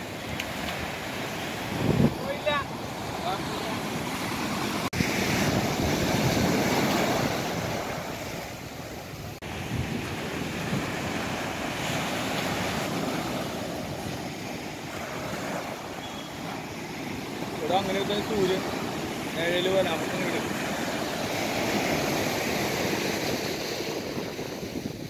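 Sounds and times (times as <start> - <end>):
surf washing up a beach: 0.0 - 25.0
wind on the microphone: 0.0 - 25.0.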